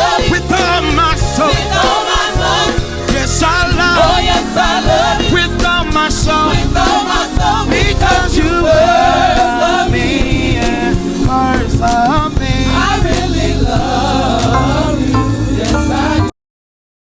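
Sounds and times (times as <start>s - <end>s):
band accompaniment with bass: 0.0s - 16.3s
person singing gospel song: 0.0s - 16.3s.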